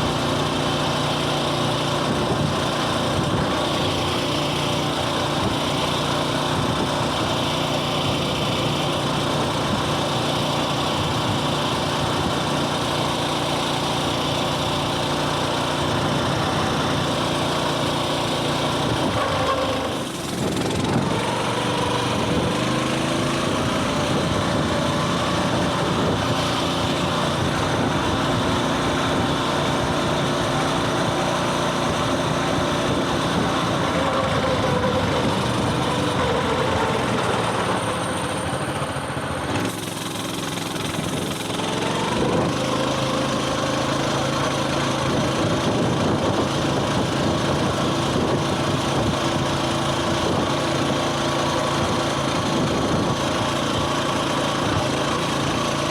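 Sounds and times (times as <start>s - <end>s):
small engine revving: 0.0s - 55.9s.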